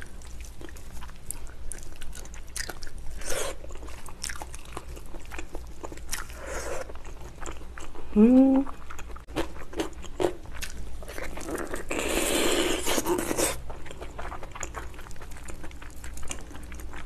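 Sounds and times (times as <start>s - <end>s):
close-up chewing: 0.0s - 17.0s.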